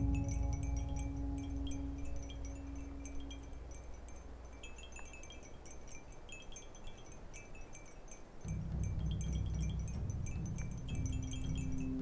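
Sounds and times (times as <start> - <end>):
low steady tone: 0.0 - 12.0
wind chimes tinkling: 0.0 - 12.0.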